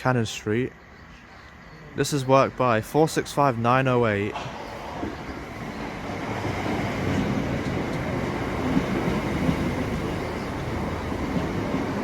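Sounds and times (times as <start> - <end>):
train rail running noise: 0.2 - 12.0.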